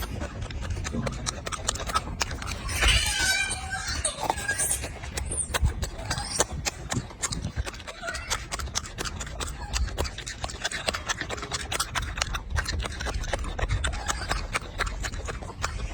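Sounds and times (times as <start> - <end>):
monkey crunching carrot: 0.0 - 15.9.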